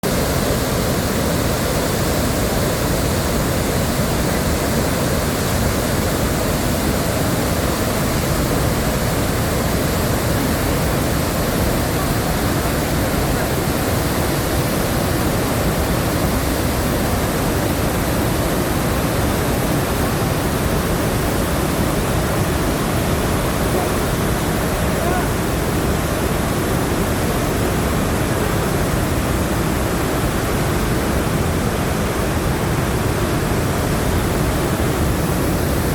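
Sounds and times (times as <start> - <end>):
waterfall roaring: 0.0 - 35.9.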